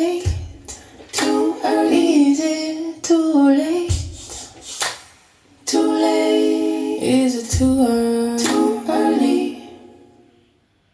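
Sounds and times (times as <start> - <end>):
female voices singing: 0.0 - 4.2, 5.6 - 10.4.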